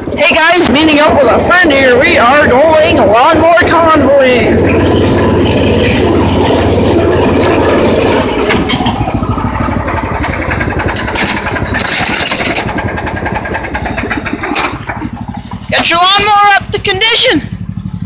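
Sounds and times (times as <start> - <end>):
riding lawnmower engine running: 0.0 - 18.0.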